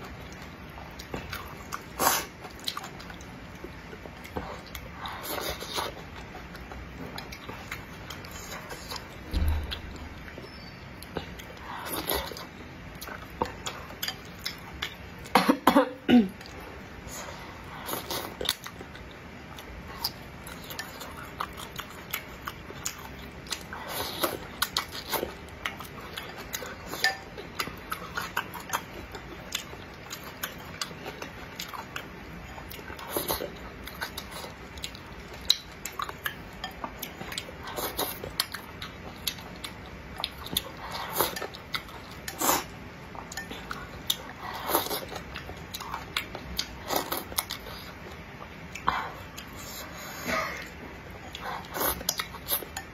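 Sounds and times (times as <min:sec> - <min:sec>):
slurping and chewing: 0:00.0 - 0:15.3, 0:16.4 - 0:52.9.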